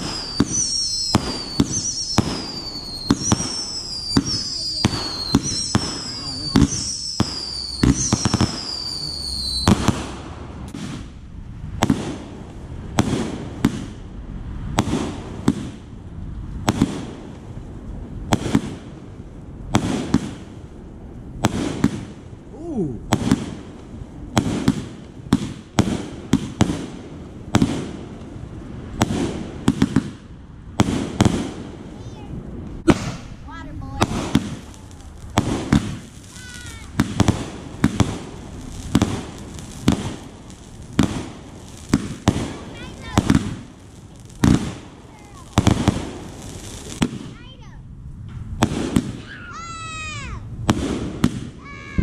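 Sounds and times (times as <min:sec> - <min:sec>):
fireworks whistling: 0:00.0 - 0:14.0, 0:21.4 - 0:30.2, 0:30.8 - 0:47.7, 0:48.3 - 0:52.0
fireworks bangs: 0:00.0 - 0:52.0.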